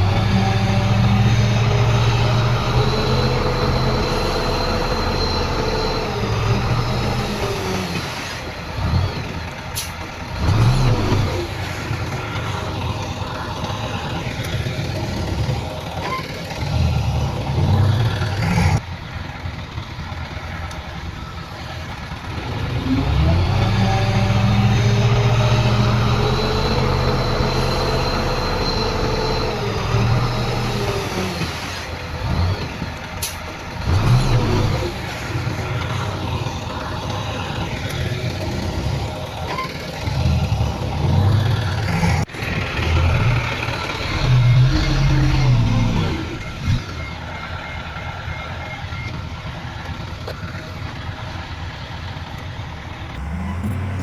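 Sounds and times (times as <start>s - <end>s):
heavy diesel machinery engines: 0.0s - 54.0s.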